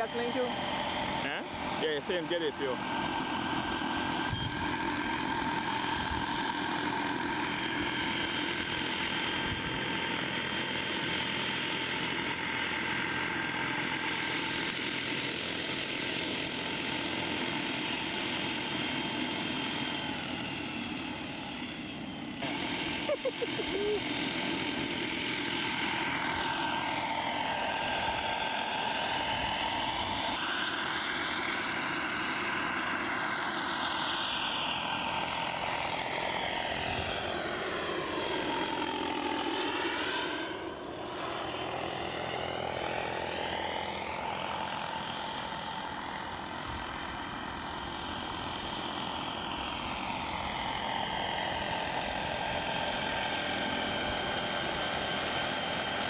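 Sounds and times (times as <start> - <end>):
model helicopter turbine whine: 0.0 - 56.0.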